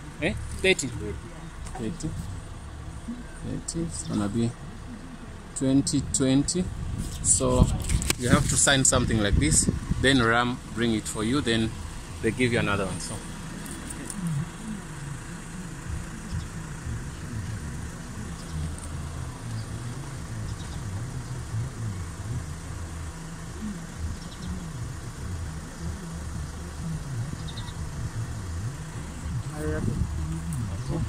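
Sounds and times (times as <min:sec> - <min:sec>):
van engine idling: 0:00.0 - 0:31.0.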